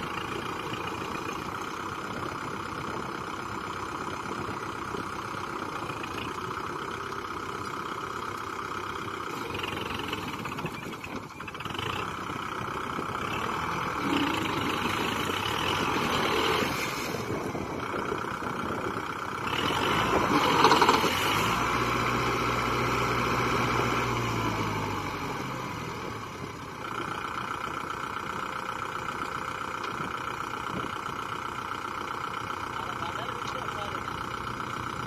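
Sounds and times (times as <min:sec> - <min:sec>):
tractor diesel engine revving: 0:00.0 - 0:35.0.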